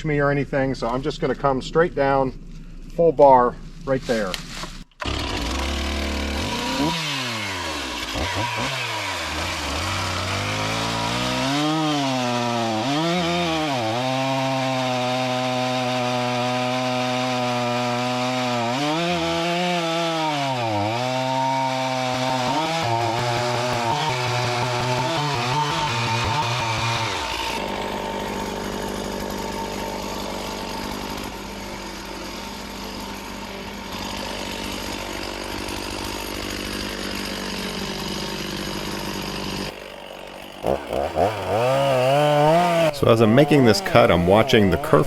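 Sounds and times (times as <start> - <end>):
chainsaw cutting wood: 4.2 - 45.0.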